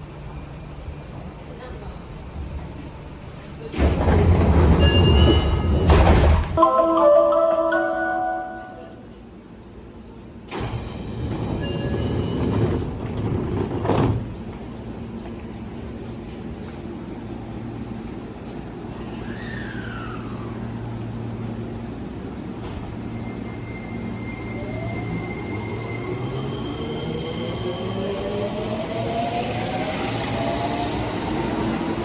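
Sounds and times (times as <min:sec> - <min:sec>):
train inverter whine: 0:02.9 - 0:32.0.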